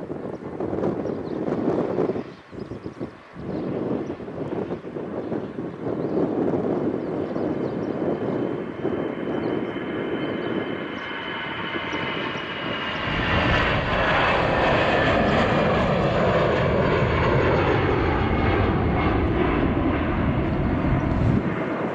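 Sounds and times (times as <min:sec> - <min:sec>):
deep jet engine rumble: 0:00.0 - 0:21.9
jet engine fan whine: 0:00.0 - 0:21.9.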